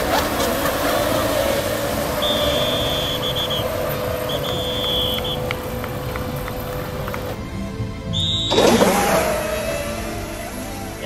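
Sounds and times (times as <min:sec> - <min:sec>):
rc boat motor whine: 0:00.0 - 0:07.4, 0:08.1 - 0:11.0.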